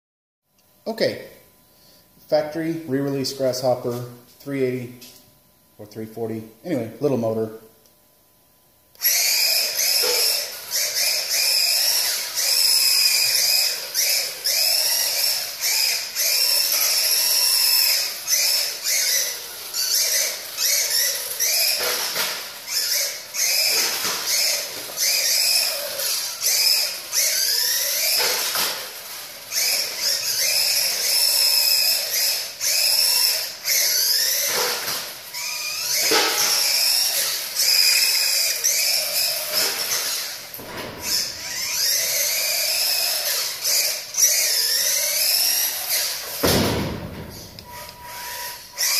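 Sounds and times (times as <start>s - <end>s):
toy car electric motor whining: 8.9s - 48.9s.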